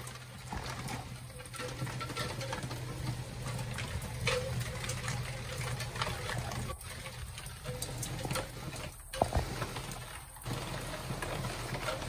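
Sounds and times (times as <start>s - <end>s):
heavy rain on paved path: 0.0s - 12.0s
water drips and splashes: 0.0s - 12.0s.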